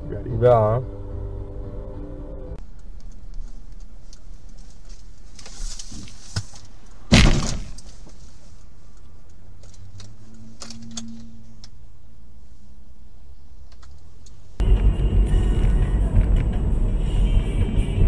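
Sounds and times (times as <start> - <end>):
car engine and road hum: 0.0 - 18.0.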